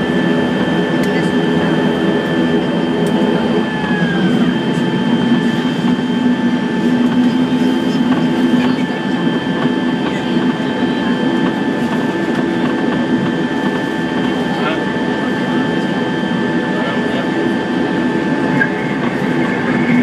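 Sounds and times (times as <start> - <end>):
high whine: 0.0 - 20.0
propeller engine drone: 0.0 - 20.0.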